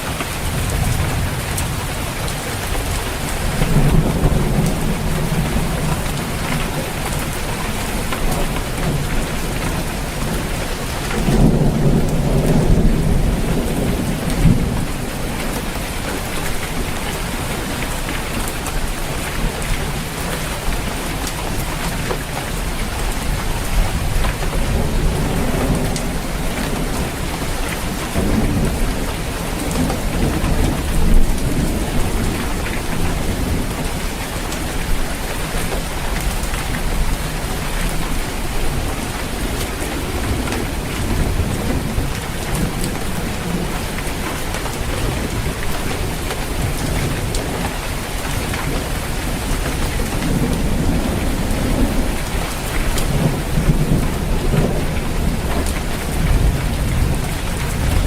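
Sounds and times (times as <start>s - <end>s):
rain on a roof: 0.0s - 58.0s
thunder rumbling: 0.0s - 58.0s.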